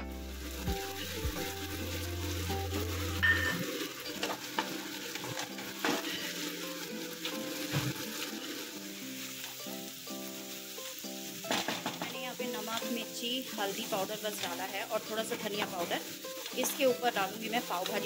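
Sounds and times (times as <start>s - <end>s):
vegetables sizzling in hot oil: 0.0s - 18.0s.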